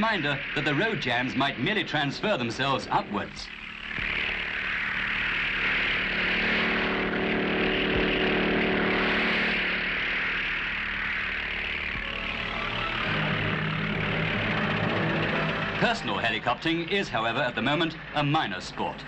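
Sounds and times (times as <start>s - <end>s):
helicopter engine running: 0.0s - 19.0s.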